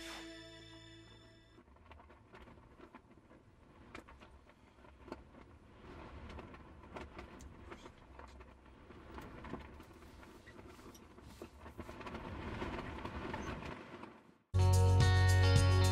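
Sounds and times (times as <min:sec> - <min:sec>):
rain pattering on roof: 0:01.6 - 0:14.4
wind rumbling against van: 0:01.6 - 0:14.4.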